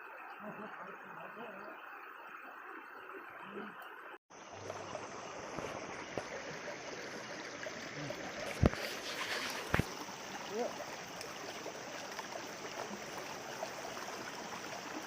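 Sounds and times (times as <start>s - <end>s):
river water running over rocks: 0.0s - 15.0s.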